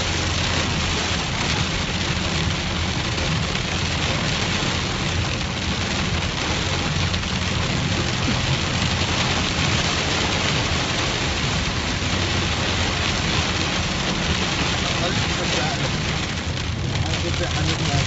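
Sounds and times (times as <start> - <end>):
engine and tyres rumbling: 0.0 - 18.0
heavy rain on car: 0.0 - 18.0.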